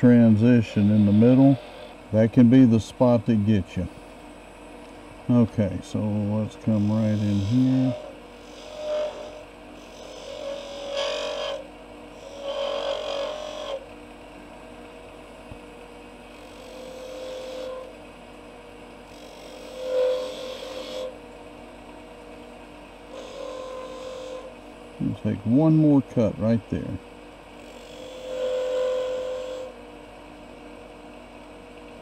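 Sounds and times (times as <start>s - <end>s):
chisel cutting spinning wood: 0.0s - 4.0s, 5.3s - 21.4s, 22.1s - 26.9s, 27.5s - 29.8s
wood lathe humming: 0.0s - 32.0s.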